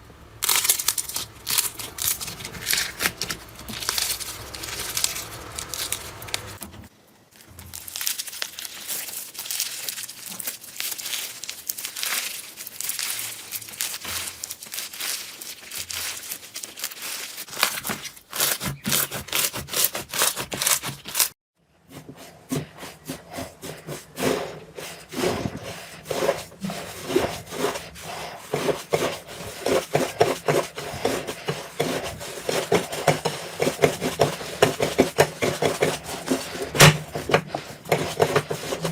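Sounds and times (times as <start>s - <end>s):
slime squelching and crackling: 0.4s - 6.6s, 7.4s - 21.4s, 22.6s - 38.9s.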